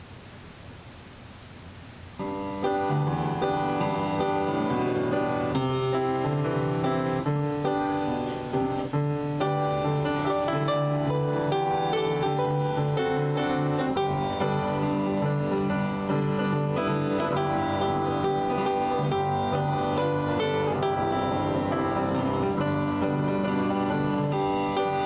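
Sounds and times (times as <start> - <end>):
faint room noise: 0.0 - 25.0
piano playing chords: 2.2 - 25.0.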